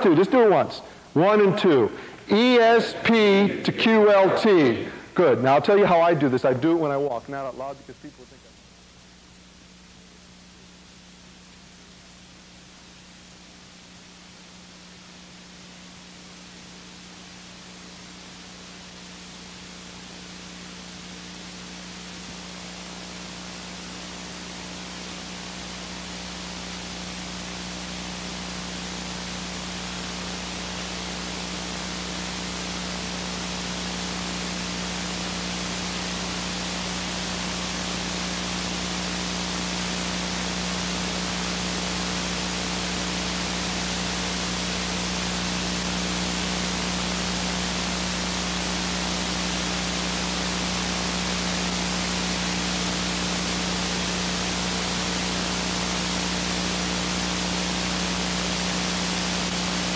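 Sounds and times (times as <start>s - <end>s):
low electrical hum: 0.0s - 59.9s
videotape hiss: 0.0s - 59.9s.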